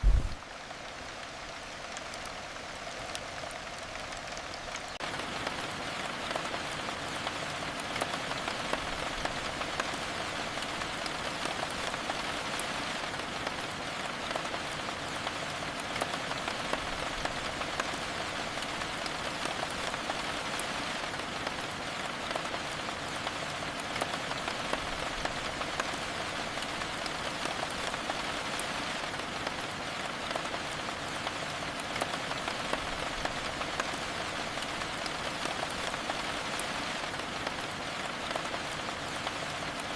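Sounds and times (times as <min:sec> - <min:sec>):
raindrop ticks: 0:00.0 - 0:39.9
steady rain hiss: 0:00.0 - 0:39.9.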